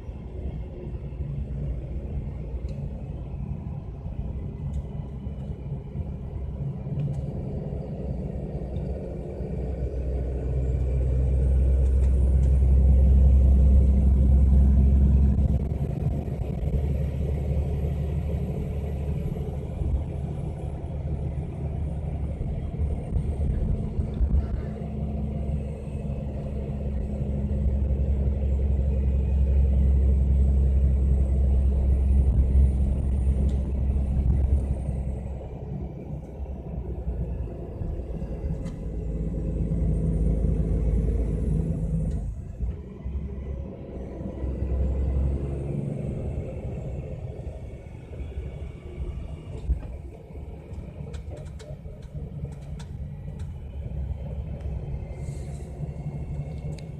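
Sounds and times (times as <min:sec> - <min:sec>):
coach engine rumbling: 0:00.0 - 0:56.9.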